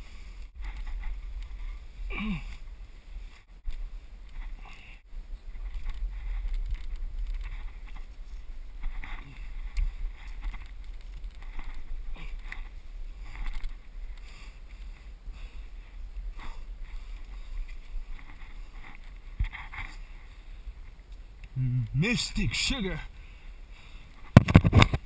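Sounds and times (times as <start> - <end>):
wind rumble on microphone: 0.0 - 21.5
branches rustling: 0.0 - 25.0.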